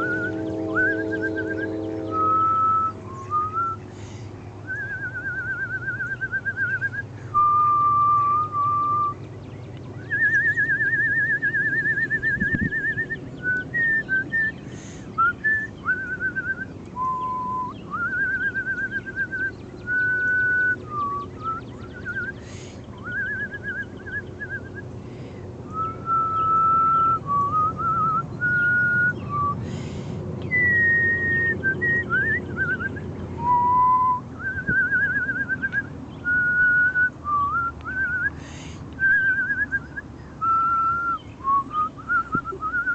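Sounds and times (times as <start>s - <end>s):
person whistling a tune: 0.0s - 3.8s, 4.7s - 9.2s, 10.0s - 14.6s, 15.2s - 22.4s, 25.7s - 29.7s, 30.5s - 38.4s, 39.0s - 42.9s.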